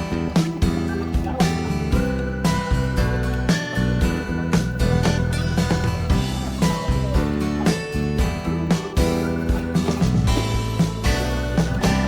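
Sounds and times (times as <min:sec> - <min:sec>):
acoustic guitar music: 0:00.0 - 0:12.0
steady drum beat: 0:00.0 - 0:12.0.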